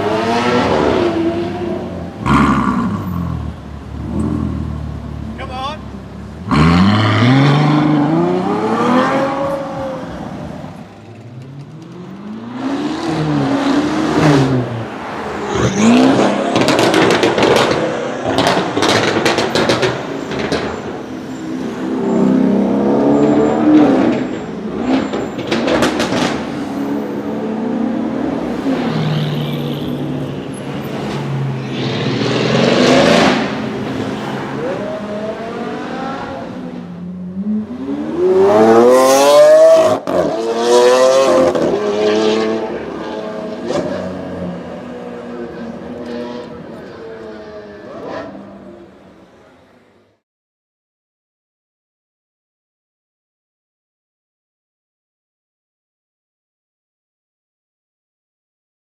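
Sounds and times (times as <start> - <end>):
car engines revving: 0.0 - 50.2.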